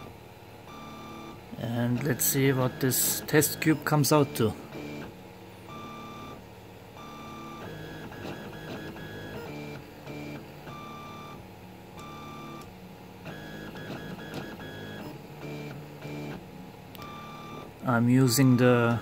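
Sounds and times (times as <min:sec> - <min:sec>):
printer stepper motors tones: 0:00.0 - 0:19.0.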